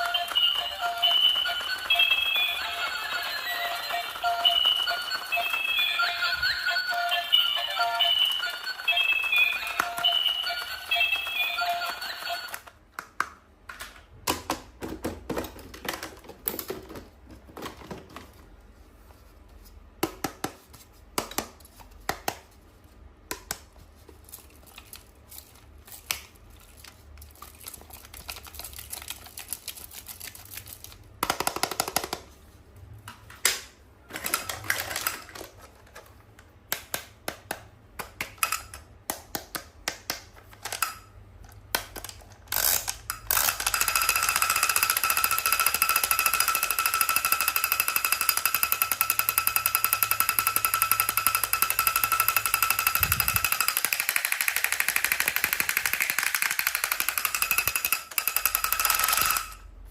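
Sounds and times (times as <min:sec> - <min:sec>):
toys and packaging clicking: 0:00.0 - 0:18.5, 0:23.3 - 0:32.4, 0:33.1 - 0:59.7.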